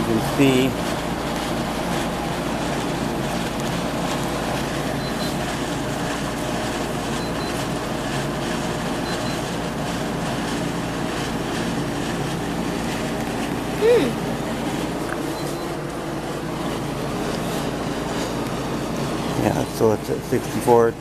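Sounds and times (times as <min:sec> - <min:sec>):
air conditioner fan rushing: 0:00.0 - 0:21.0.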